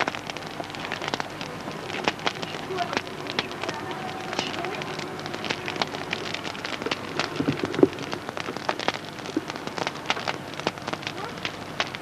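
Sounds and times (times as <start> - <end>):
crackling pops and ticks: 0.0 - 12.0
steady hiss: 0.0 - 12.0.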